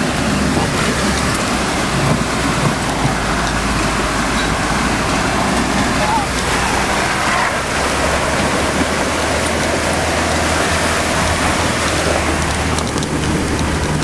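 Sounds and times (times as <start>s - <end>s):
floodwater rushing: 0.0s - 14.0s
rain: 0.0s - 14.0s
vehicle engine hum: 0.0s - 14.0s.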